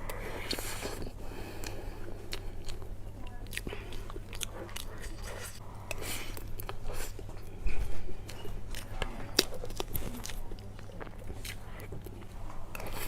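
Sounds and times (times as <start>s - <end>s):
person chewing and biting food: 0.1s - 13.0s.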